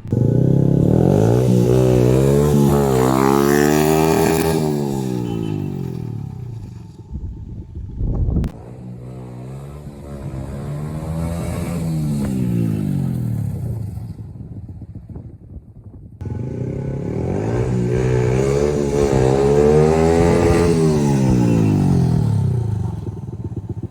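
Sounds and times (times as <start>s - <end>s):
go-kart engine revving: 0.0s - 14.2s, 16.2s - 23.9s.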